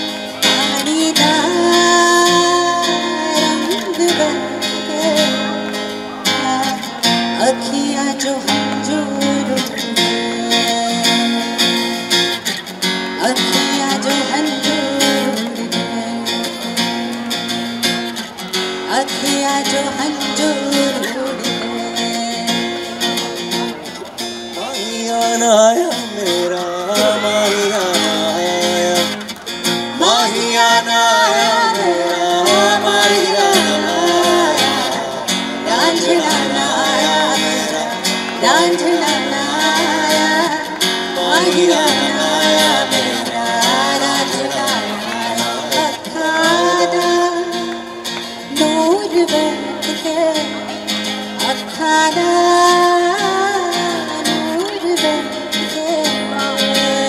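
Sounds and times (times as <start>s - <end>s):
strummed acoustic guitar: 0.0s - 57.0s
woman singing: 0.4s - 11.7s, 13.2s - 16.7s, 18.9s - 22.9s, 30.0s - 57.0s.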